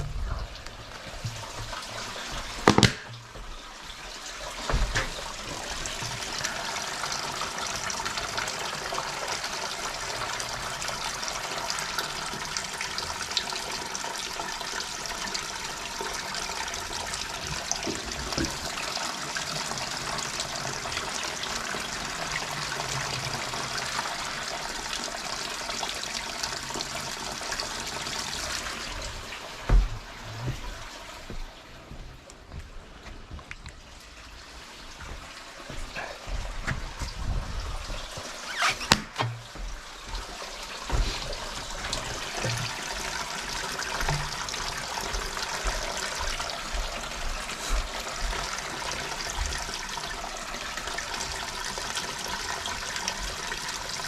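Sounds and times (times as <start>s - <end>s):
water pouring: 0.0s - 31.8s, 33.3s - 54.0s.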